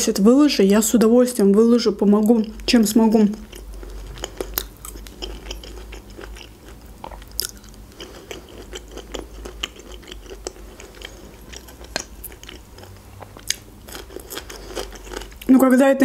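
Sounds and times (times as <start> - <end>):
person chewing: 2.2 - 15.5.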